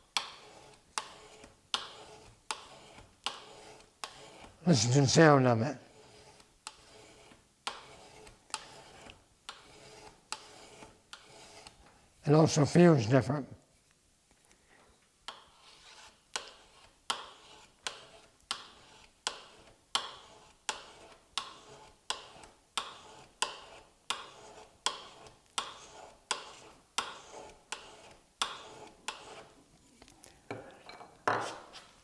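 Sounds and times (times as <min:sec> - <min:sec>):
metal-on-metal scraping strokes: 0:00.2 - 0:11.8, 0:15.3 - 0:30.1.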